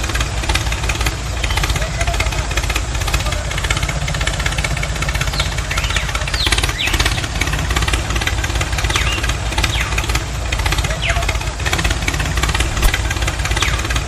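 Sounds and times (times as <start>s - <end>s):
engine idling with knocking beat: 0.0s - 14.0s.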